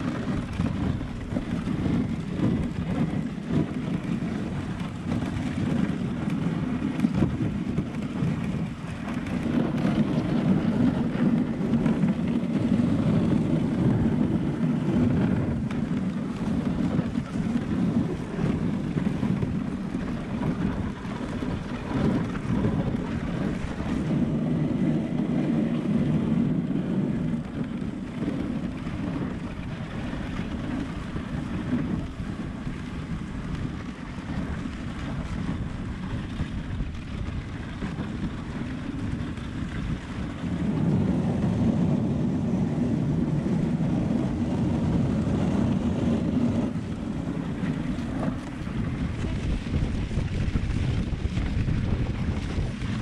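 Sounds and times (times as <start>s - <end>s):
sled runners sliding on snow: 0.0s - 53.0s
wind on microphone: 0.0s - 53.0s.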